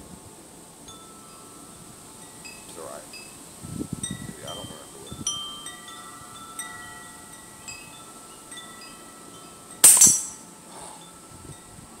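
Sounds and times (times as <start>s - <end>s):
wind chimes ringing: 0.9s - 11.9s.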